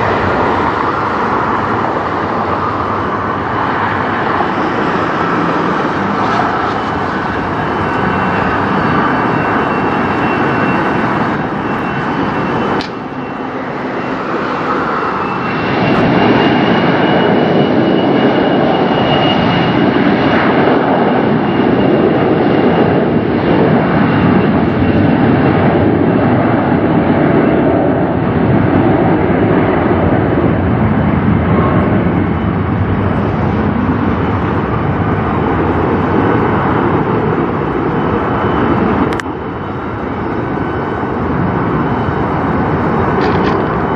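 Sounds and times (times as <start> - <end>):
jet engines roaring with whine: 0.0 - 43.9.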